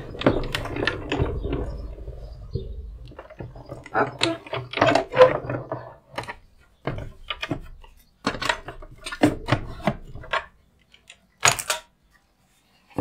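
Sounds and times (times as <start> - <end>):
plastic plates clacking and scraping: 0.0 - 11.9.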